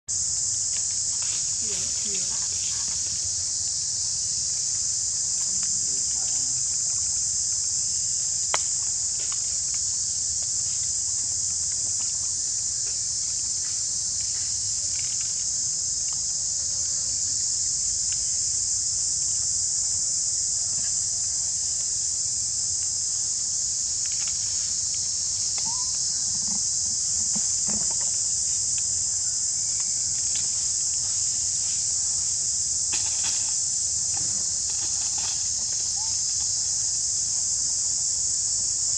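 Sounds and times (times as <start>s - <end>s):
insect chorus drone: 0.1s - 38.9s.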